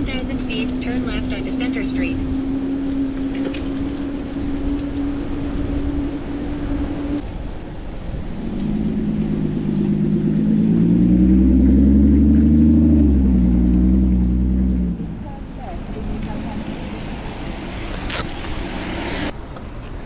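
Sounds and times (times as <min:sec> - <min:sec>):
motor vehicle engine hum: 0:00.0 - 0:20.0
traffic noise: 0:00.0 - 0:20.0
wind: 0:00.0 - 0:20.0.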